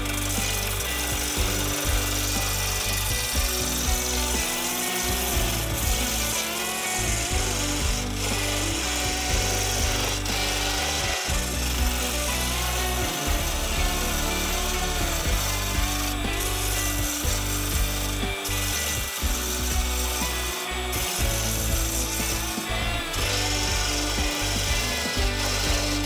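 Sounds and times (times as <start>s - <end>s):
lathe motor humming: 0.0s - 26.0s
turning tool scraping wood: 0.0s - 26.0s.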